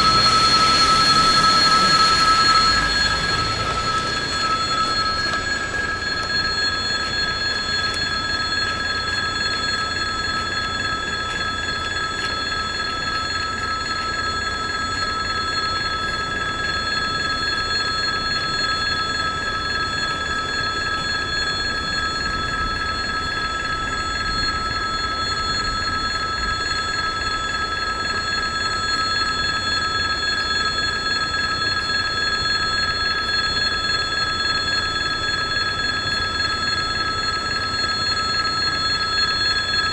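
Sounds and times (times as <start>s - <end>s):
level crossing warning bell: 0.0s - 39.9s.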